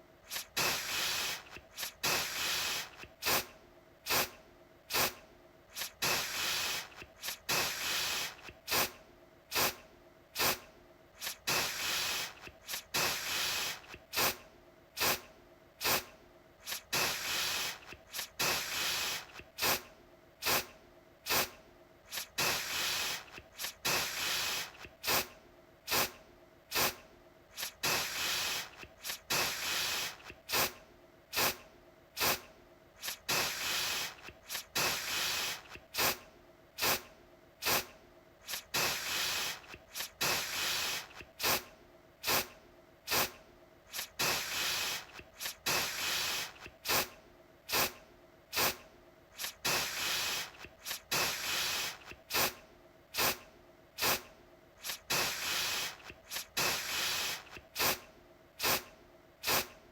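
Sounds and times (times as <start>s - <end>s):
aerosol can spraying: 0.3s - 3.5s, 4.1s - 9.8s, 10.4s - 10.6s, 11.2s - 14.4s, 15.0s - 20.7s, 21.3s - 25.3s, 25.9s - 31.6s, 32.2s - 36.2s, 36.8s - 42.5s, 43.1s - 48.8s, 49.4s - 52.6s, 53.2s - 53.4s, 54.0s - 58.0s, 58.6s - 59.7s.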